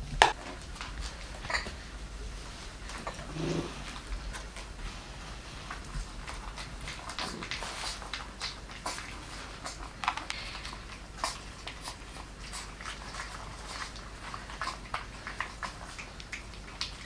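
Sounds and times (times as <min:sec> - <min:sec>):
puppies lapping and smacking: 0:00.0 - 0:17.0.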